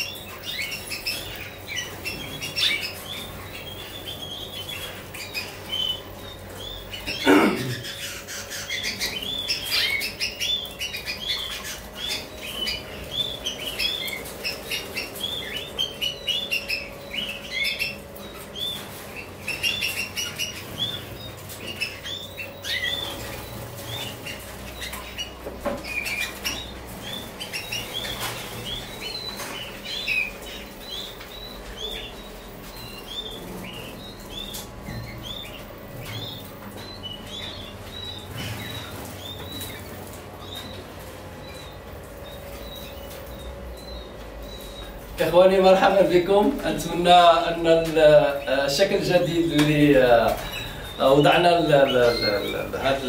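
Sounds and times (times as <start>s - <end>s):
canaries chirping: 0.0s - 53.0s.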